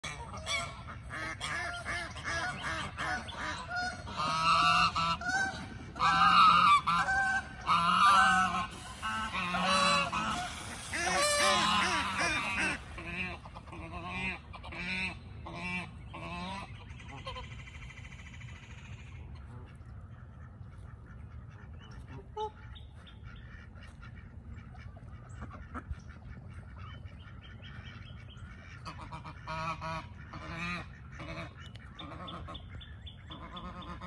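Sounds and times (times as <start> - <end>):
geese honking: 0.0 - 34.0.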